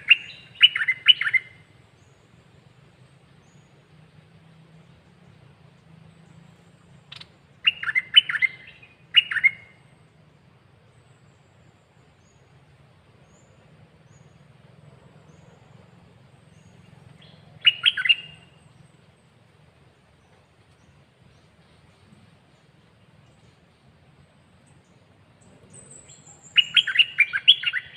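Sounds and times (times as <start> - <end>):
songbird chirping: 0.0 - 27.9.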